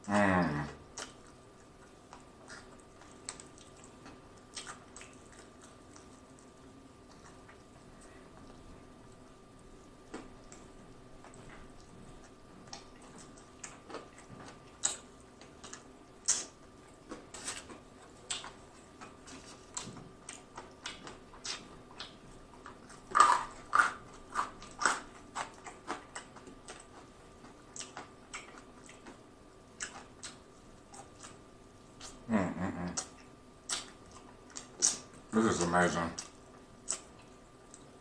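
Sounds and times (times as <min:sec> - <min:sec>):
chewing crispy fried chicken: 0:00.0 - 0:38.0.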